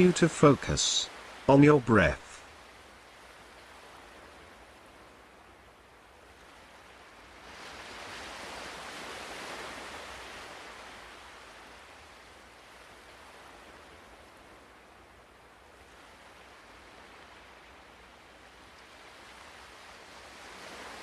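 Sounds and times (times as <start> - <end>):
ocean surf washing: 0.0 - 5.2, 6.3 - 21.0.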